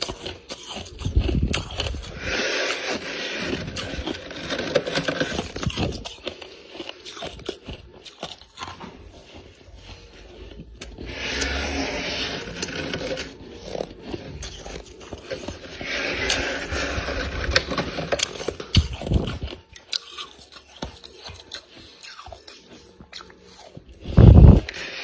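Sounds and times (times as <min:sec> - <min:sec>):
frost being chewed crunchily: 0:00.0 - 0:25.0.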